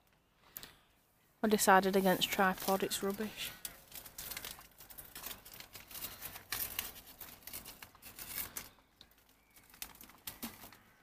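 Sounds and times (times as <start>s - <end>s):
plastic wrapper crinkling and tearing: 1.5s - 11.0s.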